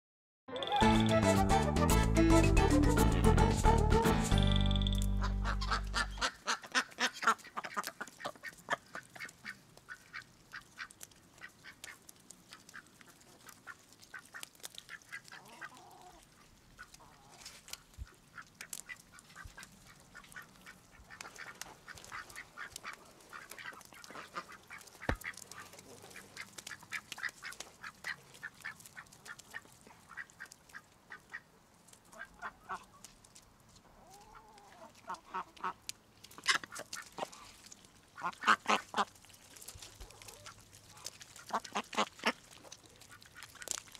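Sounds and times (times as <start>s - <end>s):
duck bills pecking ground: 5.0s - 43.9s
ducks quacking softly: 5.2s - 33.1s, 33.9s - 43.8s.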